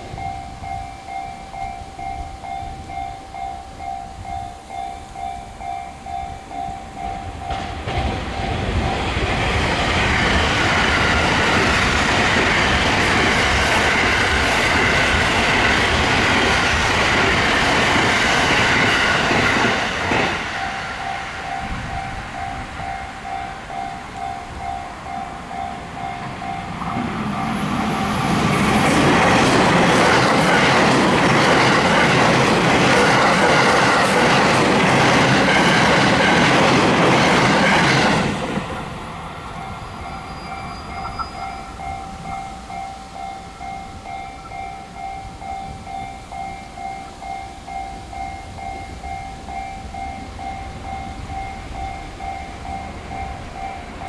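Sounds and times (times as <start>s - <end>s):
electric train passing: 0.0s - 54.0s.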